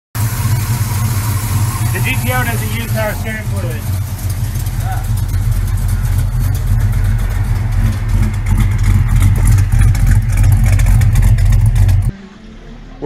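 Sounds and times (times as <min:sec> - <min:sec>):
car engine idling loud and deep: 0:00.1 - 0:12.1.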